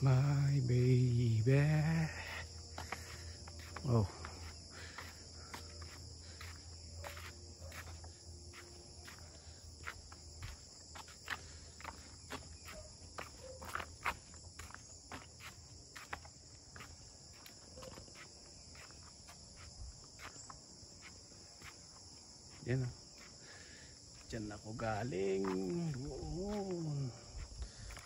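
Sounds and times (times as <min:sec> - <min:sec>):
insects droning: 0:00.0 - 0:28.0
footsteps on concrete: 0:02.0 - 0:28.0.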